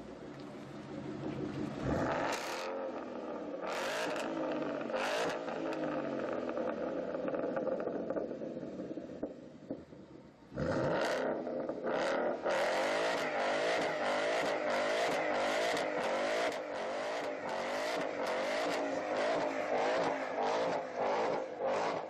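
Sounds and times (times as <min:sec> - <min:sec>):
car engine revving: 0:00.9 - 0:09.8, 0:10.5 - 0:22.0.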